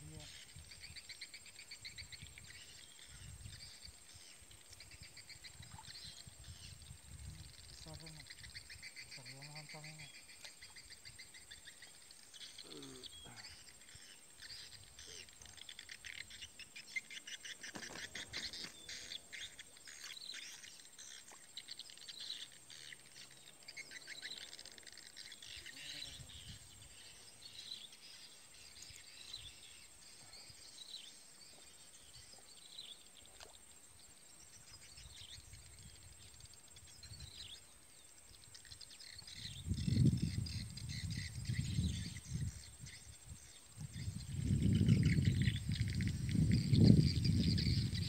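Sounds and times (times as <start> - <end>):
insects: 0.0 - 48.0
small birds chirping: 0.0 - 48.0.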